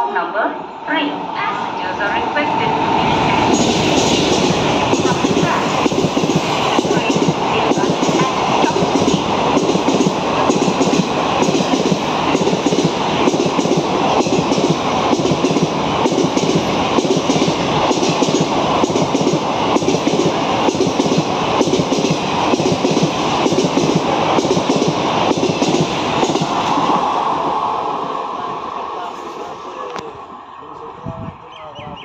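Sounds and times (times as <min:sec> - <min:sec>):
train rushing past: 0:00.0 - 0:32.0.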